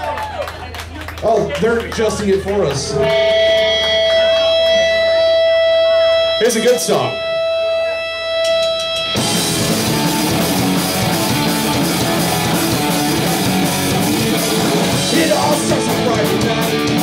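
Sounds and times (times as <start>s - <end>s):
punk rock band playing: 1.3s - 17.0s
held electric guitar tone: 2.4s - 17.0s.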